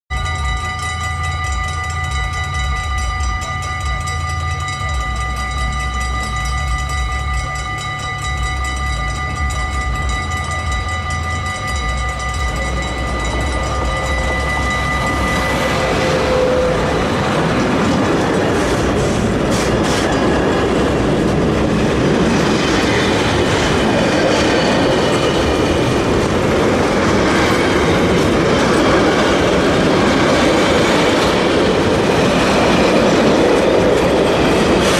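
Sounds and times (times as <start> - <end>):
electric locomotive passing: 0.1 - 34.9
level crossing bell ringing: 0.1 - 34.9
train wagons clattering over rails: 0.1 - 34.9.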